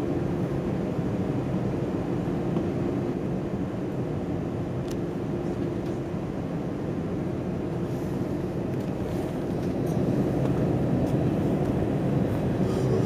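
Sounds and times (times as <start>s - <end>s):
aircraft cabin engine hum: 0.0s - 13.0s.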